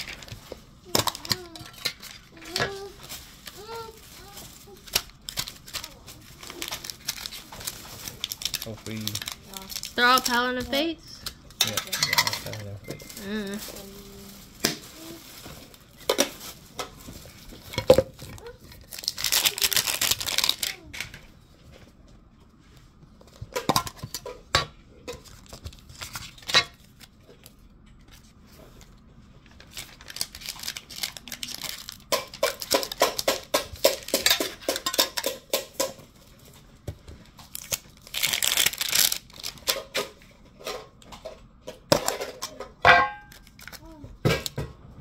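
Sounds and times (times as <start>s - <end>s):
plastic and foil crinkling: 0.0s - 21.9s, 22.7s - 44.7s.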